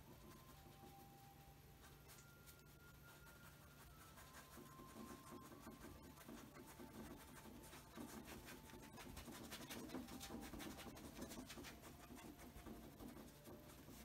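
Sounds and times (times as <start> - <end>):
paintbrush brushing on canvas: 0.0 - 14.0.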